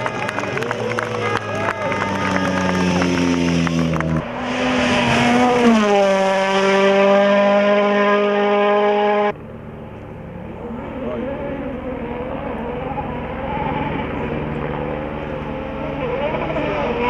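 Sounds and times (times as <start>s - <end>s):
distant car engine: 0.0s - 17.0s
rally car engine passing: 0.0s - 17.0s.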